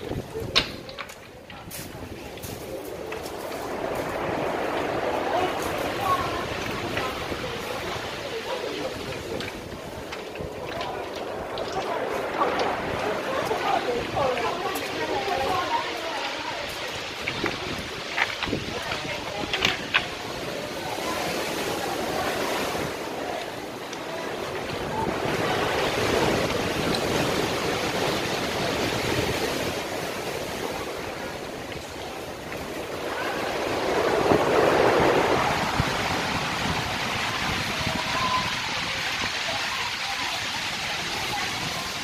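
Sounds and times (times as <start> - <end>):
surf washing into sea cave: 0.0 - 42.0.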